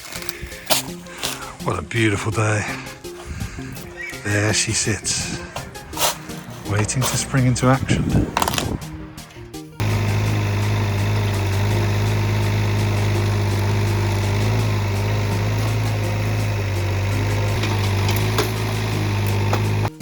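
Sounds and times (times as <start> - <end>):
excavator engine humming: 0.0 - 20.0.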